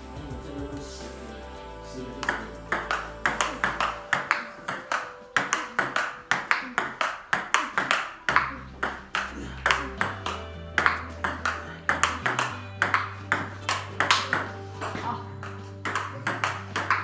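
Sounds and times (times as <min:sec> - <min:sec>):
faint background music: 0:00.0 - 0:17.0
table tennis ball clicking: 0:02.3 - 0:17.0.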